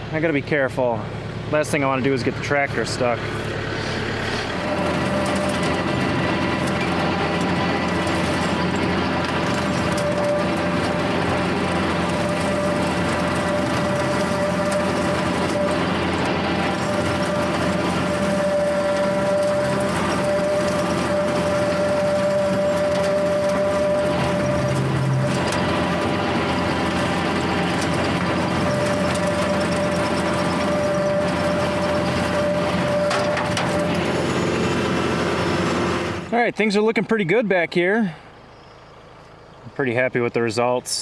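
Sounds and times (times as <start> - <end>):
tractor diesel engine under load: 0.0 - 41.0
steady whining tone: 1.5 - 36.4.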